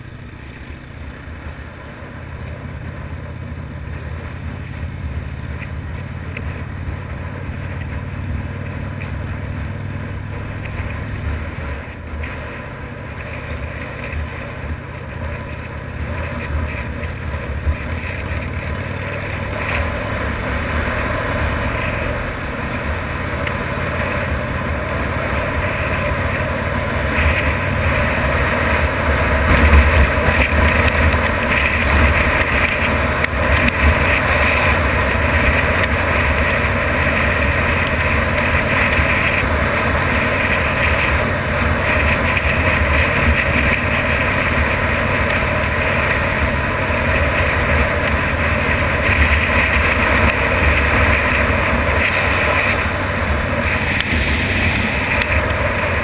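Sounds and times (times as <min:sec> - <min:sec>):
motorcycle engine rumble: 0:00.0 - 0:56.0
wind and road noise: 0:00.0 - 0:56.0.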